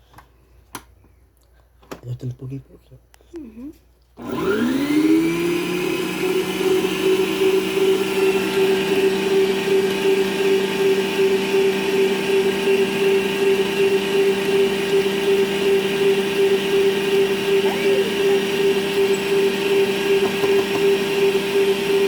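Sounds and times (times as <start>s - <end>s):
stand mixer motor whining: 4.2s - 22.0s.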